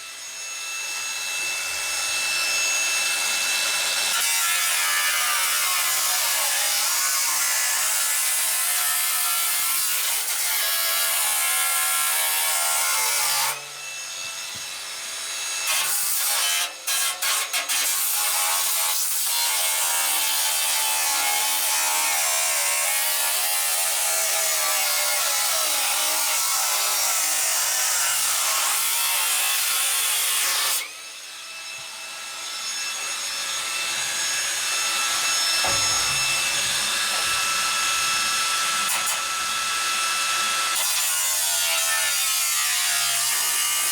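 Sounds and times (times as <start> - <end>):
power tool cutting metal: 0.0 - 43.9.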